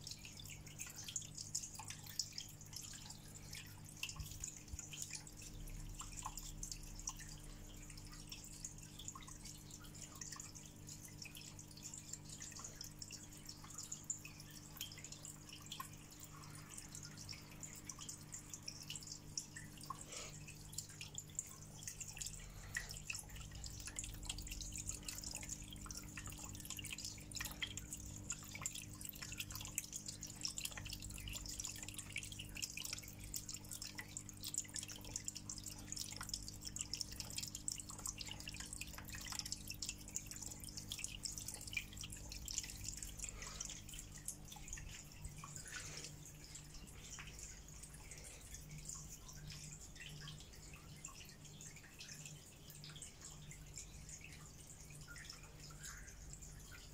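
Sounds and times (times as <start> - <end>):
water trickling and dripping: 0.0 - 56.9.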